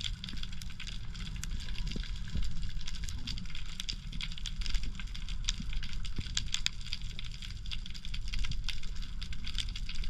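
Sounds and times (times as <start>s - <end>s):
low rumble of moving water: 0.0s - 10.0s.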